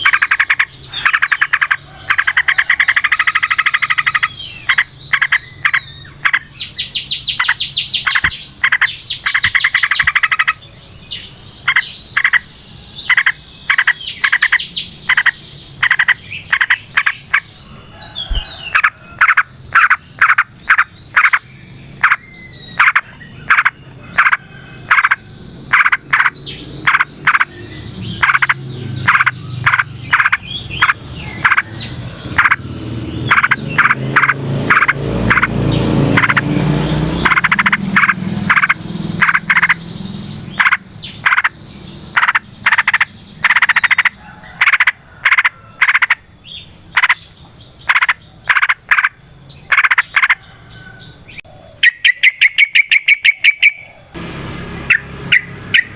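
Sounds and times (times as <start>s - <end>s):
bird chirping short repeated chirps: 0.0s - 12.5s, 13.1s - 17.5s, 18.3s - 31.7s, 33.2s - 35.5s, 37.2s - 46.2s, 51.3s - 54.0s, 54.6s - 55.9s
bulbul singing trilled phrases: 0.0s - 50.4s, 51.3s - 55.9s.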